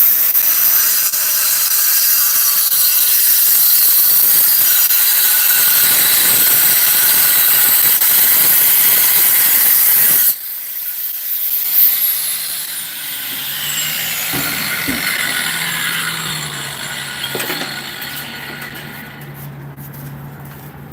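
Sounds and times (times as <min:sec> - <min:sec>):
angle grinder cutting stone: 0:00.0 - 0:19.4.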